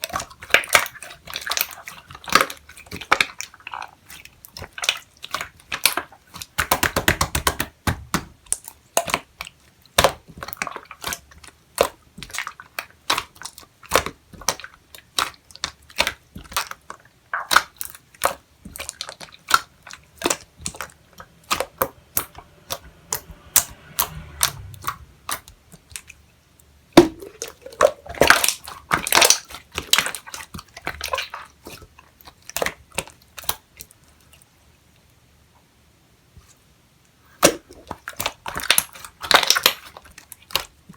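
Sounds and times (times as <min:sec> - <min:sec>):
slime squished by hand: 0:00.0 - 0:26.2, 0:26.9 - 0:33.9, 0:37.4 - 0:40.9.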